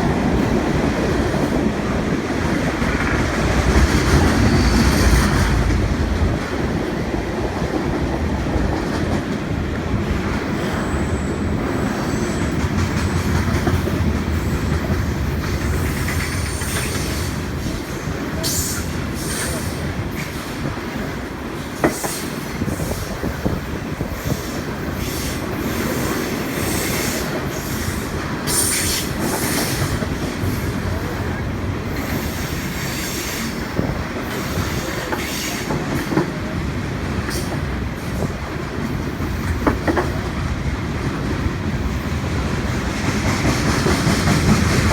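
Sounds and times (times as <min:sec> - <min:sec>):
rail joint clicks: 0:00.0 - 0:44.9
railcar wheels rumbling on rails: 0:00.0 - 0:44.9.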